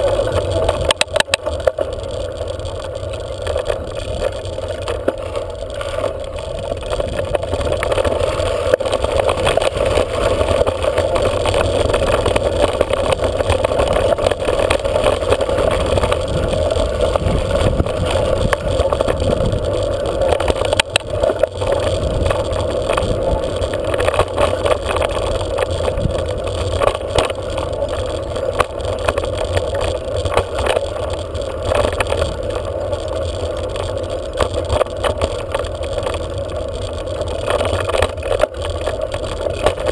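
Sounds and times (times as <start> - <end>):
bike knocks and rattles: 0.0 - 39.9
bike rolling over gravel: 0.0 - 39.9.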